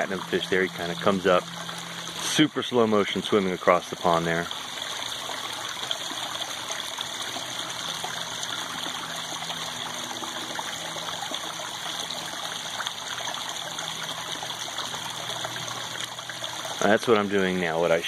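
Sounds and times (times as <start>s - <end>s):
running water trickling and splashing: 0.0s - 18.0s.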